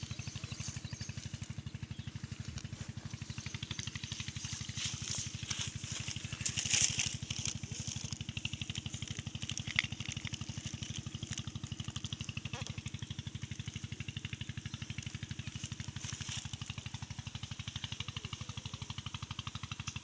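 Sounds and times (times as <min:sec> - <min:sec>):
small engine idling: 0:00.0 - 0:20.0.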